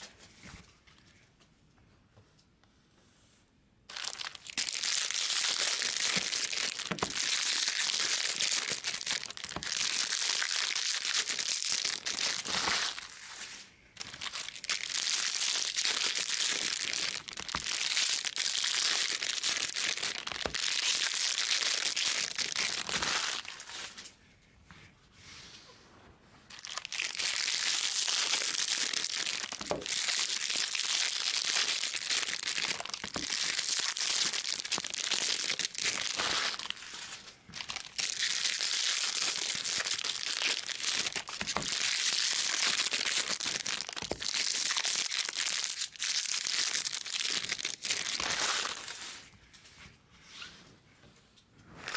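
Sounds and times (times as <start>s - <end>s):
foil wrappers tearing and crinkling: 3.9s - 13.4s, 14.0s - 24.0s, 26.5s - 49.2s.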